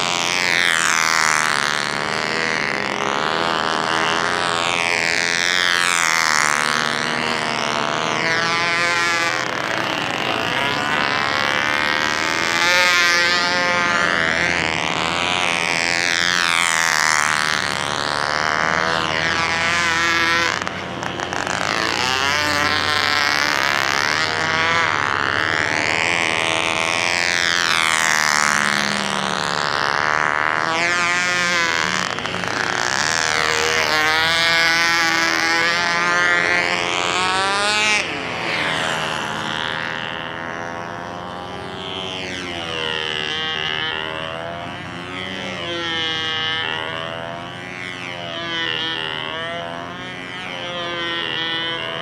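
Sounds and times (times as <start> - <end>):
model plane engine at full throttle: 0.0 - 52.0.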